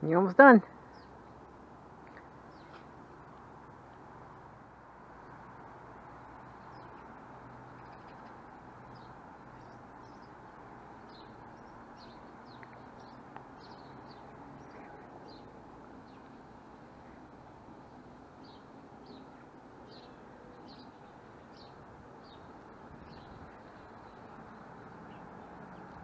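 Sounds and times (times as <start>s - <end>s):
faint outdoor hum: 0.0s - 26.0s
small birds chirping: 0.1s - 1.3s, 2.0s - 4.0s, 6.4s - 17.3s, 18.4s - 26.0s.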